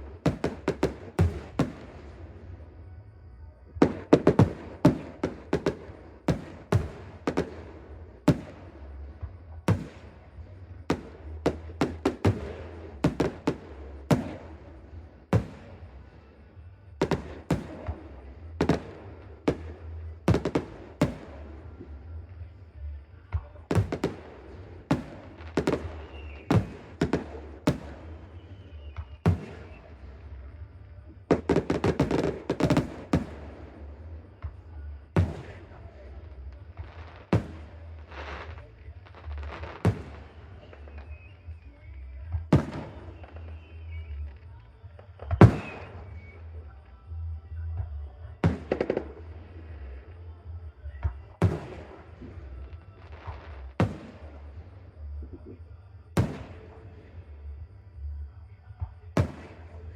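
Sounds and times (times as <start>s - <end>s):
fireworks bangs: 0.0s - 2.7s, 3.8s - 16.4s, 17.0s - 22.5s, 23.1s - 46.4s, 47.8s - 50.1s, 51.0s - 55.5s, 56.1s - 57.6s, 58.8s - 59.9s.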